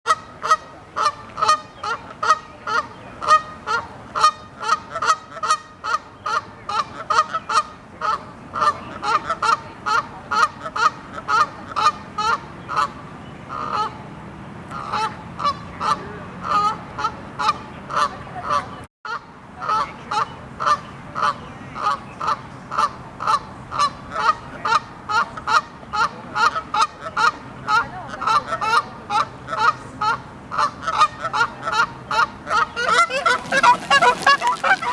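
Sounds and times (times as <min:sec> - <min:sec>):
geese honking loudly: 0:00.1 - 0:14.0, 0:14.7 - 0:34.9.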